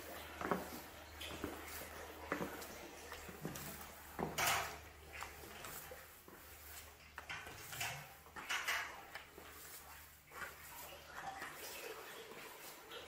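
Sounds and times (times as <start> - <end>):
paint roller swishing: 0.0 - 13.0.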